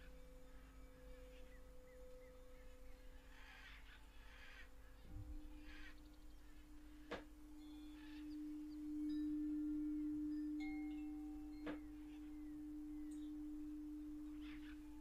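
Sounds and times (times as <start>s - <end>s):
faint bird calls: 0.0s - 15.0s
singing bowl hum: 0.0s - 15.0s.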